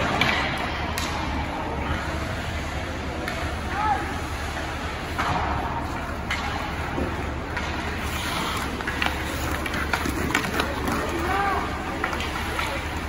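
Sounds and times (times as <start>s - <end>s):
arena noise low hum: 0.0s - 13.0s.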